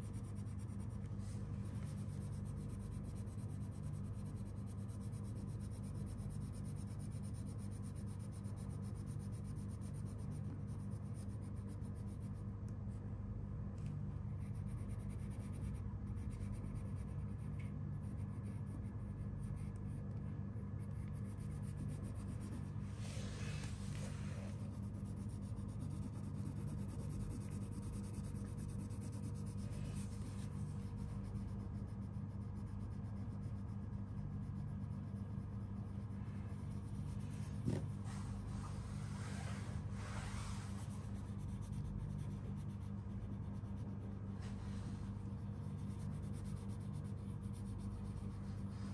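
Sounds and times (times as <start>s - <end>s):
crayon rubbing on paper: 0.0s - 12.4s, 20.8s - 38.2s, 38.8s - 48.9s
steady low hum: 0.0s - 48.9s.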